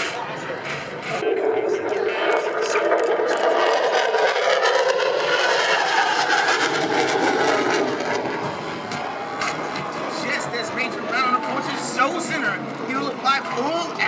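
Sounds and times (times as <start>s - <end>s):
fighter jet engine roar: 0.0s - 14.0s.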